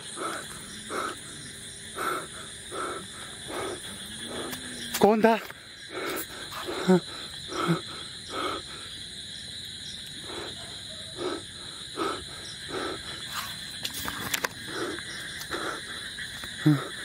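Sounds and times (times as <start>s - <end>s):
night insects droning: 0.0s - 17.0s.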